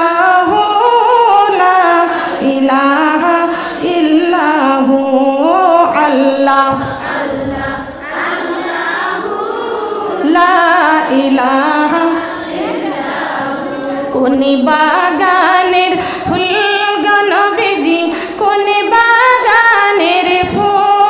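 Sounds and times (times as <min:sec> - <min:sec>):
woman singing devotional song: 0:00.0 - 0:08.1, 0:09.2 - 0:21.0.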